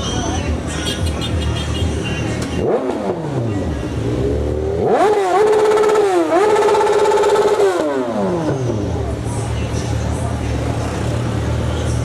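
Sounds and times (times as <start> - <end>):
motorcycle engine revving: 0.9 - 12.0.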